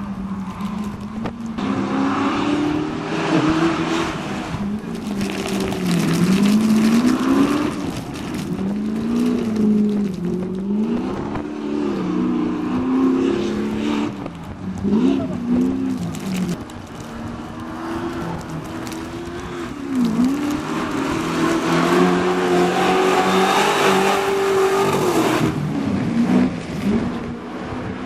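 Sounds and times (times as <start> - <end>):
off-road engine revving: 0.8 - 28.0.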